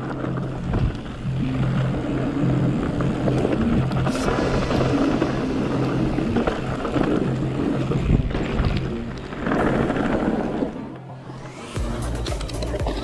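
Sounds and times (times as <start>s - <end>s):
wind buffeting microphone: 0.0s - 12.2s
bike tyres rumbling on gravel: 0.0s - 13.0s.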